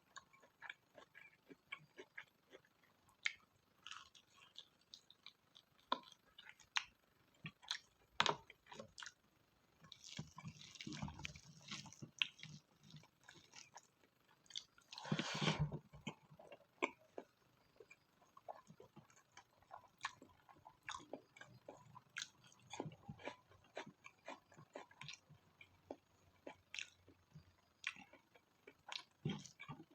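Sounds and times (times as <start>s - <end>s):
wet chewing of food: 0.0s - 9.2s, 9.8s - 29.9s.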